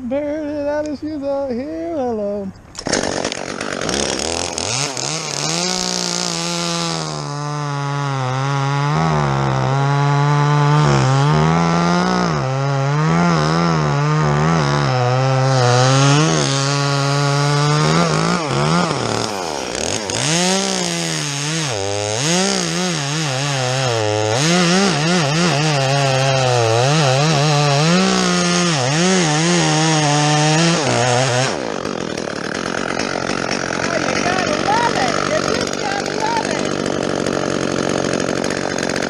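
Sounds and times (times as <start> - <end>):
chainsaw cutting wood: 2.6 - 39.0.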